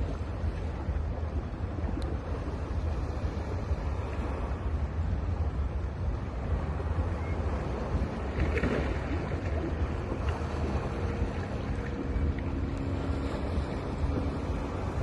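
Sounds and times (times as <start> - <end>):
ocean surf washing on beach: 0.0 - 15.0
wind rumbling on microphone: 0.0 - 15.0.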